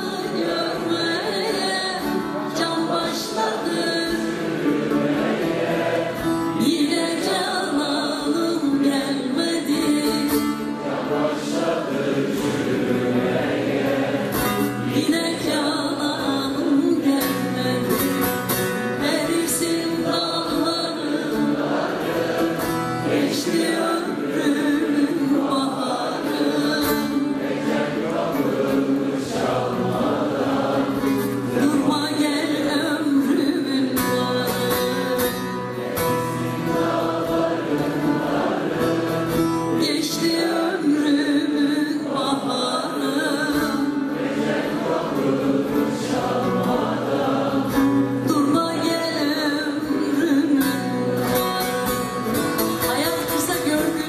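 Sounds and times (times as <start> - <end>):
long-necked lute playing: 0.0 - 54.0
voices singing folk song: 0.0 - 54.0.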